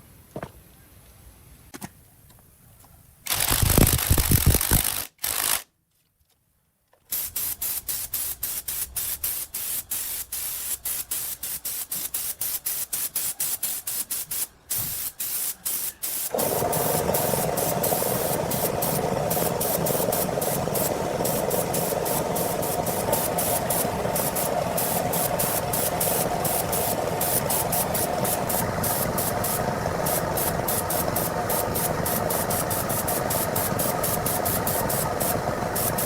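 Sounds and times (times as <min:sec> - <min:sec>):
loud air hissing: 0:07.1 - 0:36.0.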